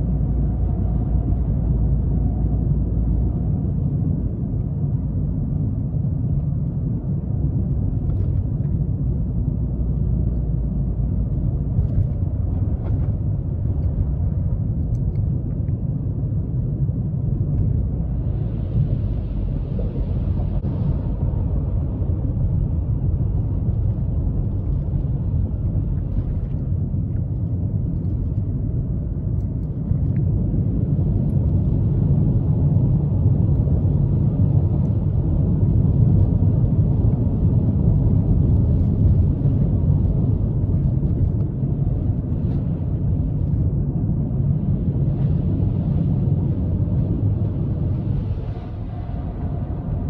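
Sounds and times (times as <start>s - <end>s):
road and tyre rumble in car: 0.0s - 50.0s.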